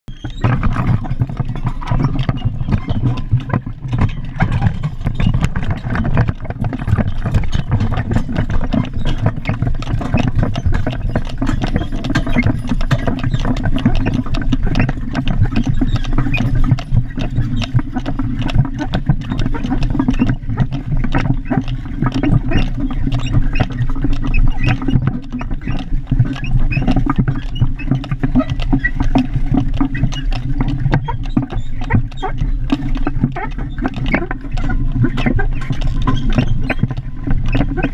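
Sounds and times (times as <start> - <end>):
hooves clopping on asphalt: 0.1 - 37.9
wagon clattering and rattling: 0.1 - 37.9
wagon wheels rumbling: 0.1 - 37.9.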